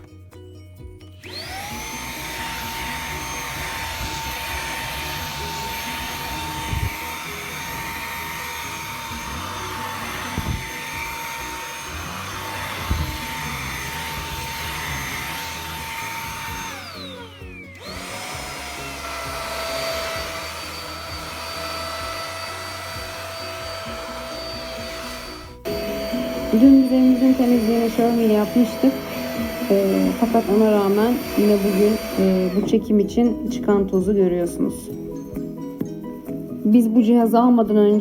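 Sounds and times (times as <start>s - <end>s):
stick vacuum whining: 1.2s - 33.0s.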